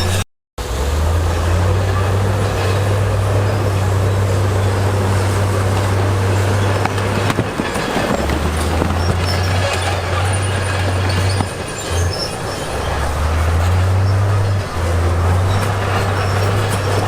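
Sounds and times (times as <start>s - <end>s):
steel tracks clanking and squealing: 0.0s - 0.2s, 1.1s - 17.0s
bulldozer diesel engine under load: 0.0s - 17.0s.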